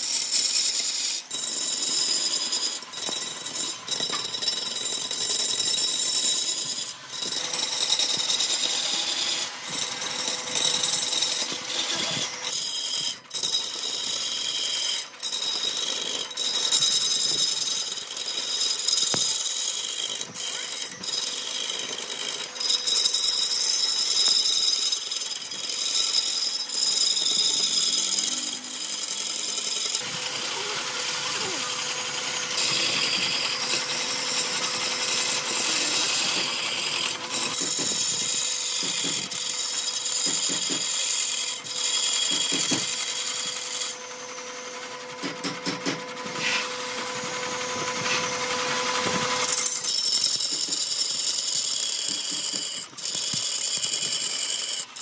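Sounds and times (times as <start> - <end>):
power tool whining on wood: 0.0 - 55.0.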